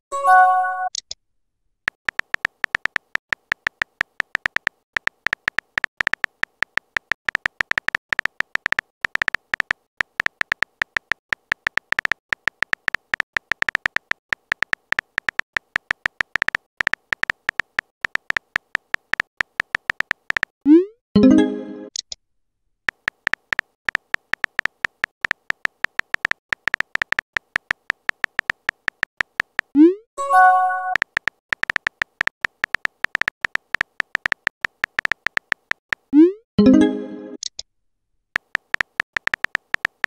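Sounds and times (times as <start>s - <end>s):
keyboard typing ticks: 1.9s - 20.8s, 22.9s - 37.6s, 38.4s - 40.0s.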